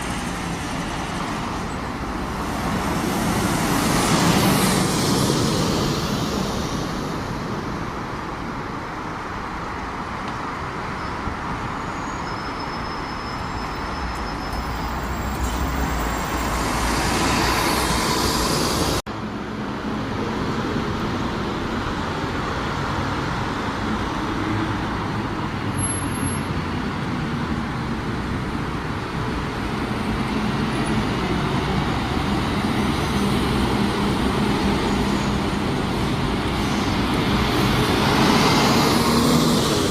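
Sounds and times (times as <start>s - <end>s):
road traffic with buses: 0.0s - 39.9s.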